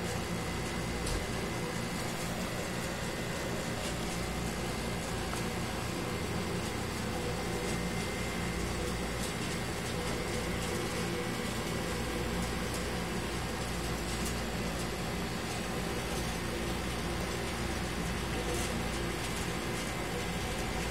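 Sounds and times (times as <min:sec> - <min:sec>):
aquarium pump humming: 0:00.0 - 0:20.9.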